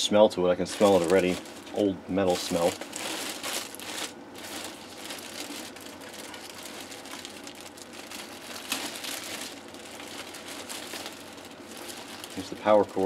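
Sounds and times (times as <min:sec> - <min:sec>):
plastic and foam packaging crinkling: 0:00.5 - 0:13.0.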